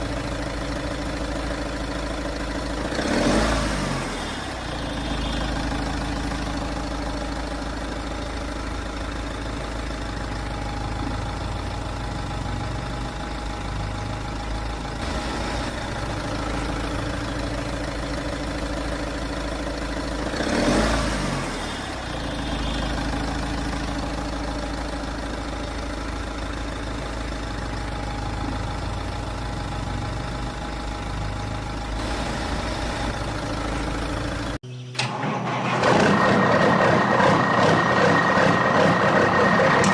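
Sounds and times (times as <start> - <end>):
heavy vehicle engine idling: 0.0 - 39.9.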